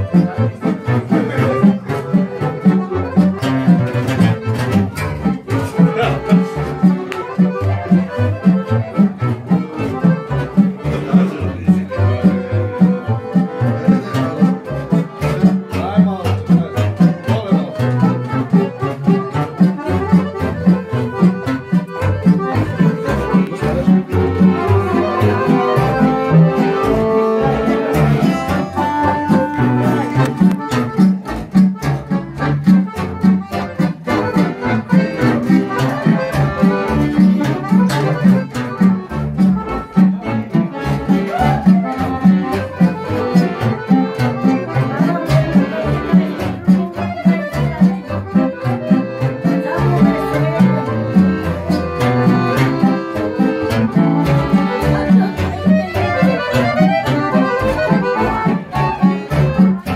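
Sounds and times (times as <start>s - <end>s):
accordion melody: 0.0s - 59.9s
upright bass plucked: 0.0s - 59.9s.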